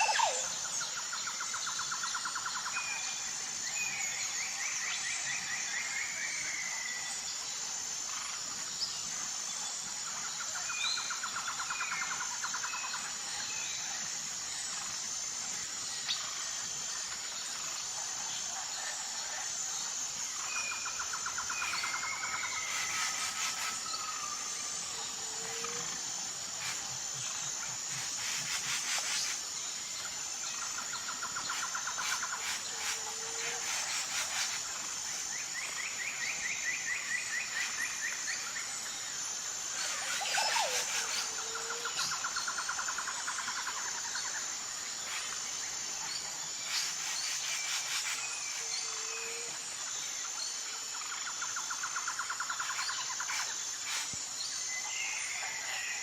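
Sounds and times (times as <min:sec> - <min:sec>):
pulsing insect drone: 0:00.0 - 0:56.0.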